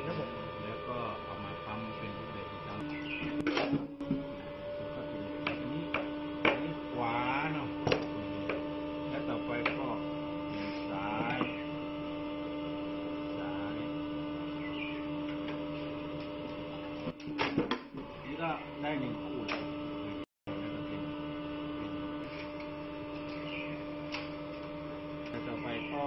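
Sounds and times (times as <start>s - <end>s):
hydraulic pump motor hum: 0.0s - 26.0s.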